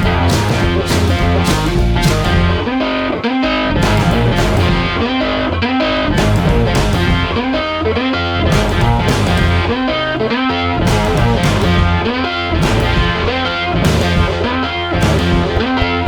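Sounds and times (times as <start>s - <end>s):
rock music with distorted guitar: 0.0s - 16.0s.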